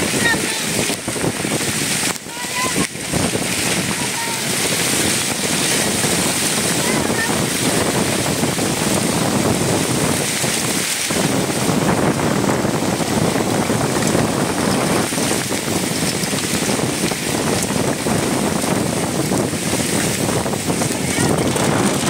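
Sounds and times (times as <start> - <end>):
heavy rain: 0.0 - 22.0
wind: 0.0 - 22.0
wind buffeting microphone: 0.0 - 22.0.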